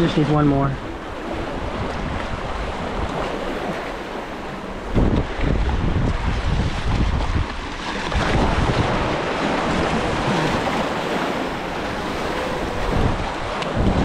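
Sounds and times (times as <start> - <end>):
waves washing among boulders: 0.0 - 14.0.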